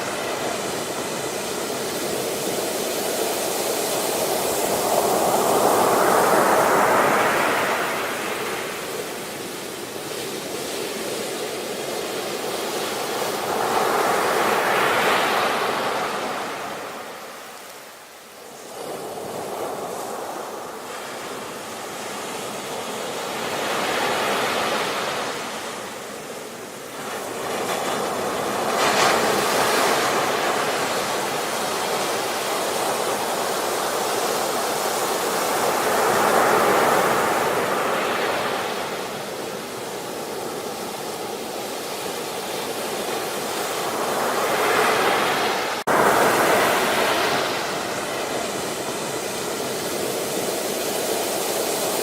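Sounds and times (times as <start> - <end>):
waves breaking on shore: 0.0 - 52.0.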